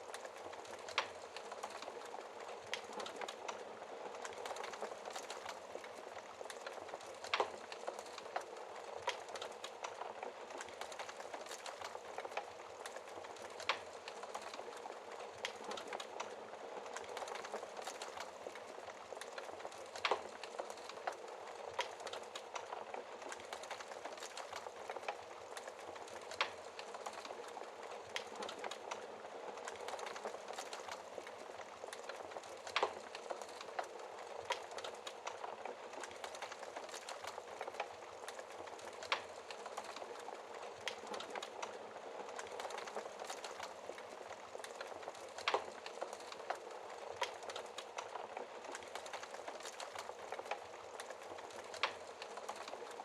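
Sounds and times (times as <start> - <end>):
fire crackling: 0.0 - 53.0
fire popping: 0.0 - 53.0.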